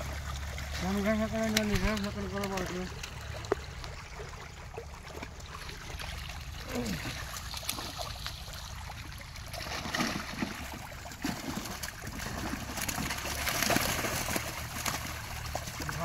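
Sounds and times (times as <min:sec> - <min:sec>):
fish thrashing in water: 0:00.0 - 0:16.0.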